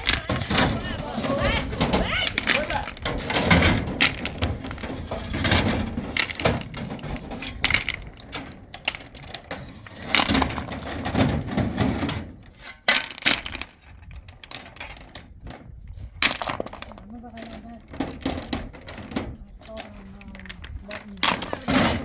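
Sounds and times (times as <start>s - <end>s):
stones knocking and clattering: 0.0s - 22.0s.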